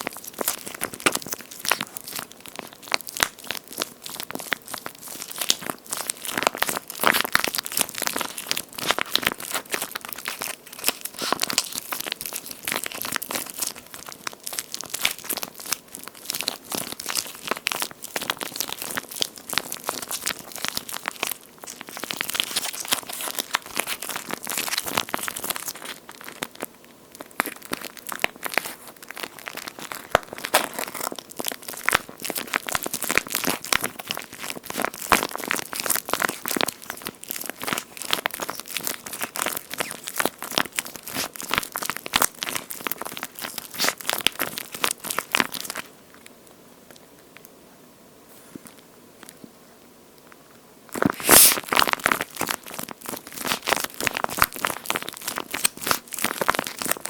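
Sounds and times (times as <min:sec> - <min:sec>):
squishy toy crackling and squishing: 0:00.0 - 0:47.5, 0:50.2 - 0:57.0.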